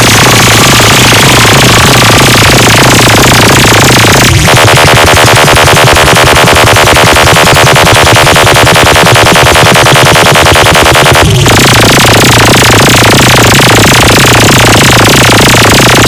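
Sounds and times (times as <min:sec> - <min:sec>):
buzzing electronic tone: 0:00.0 - 0:16.0
distorted electronic dance music: 0:00.0 - 0:16.0
heavy bass beat: 0:00.0 - 0:16.0.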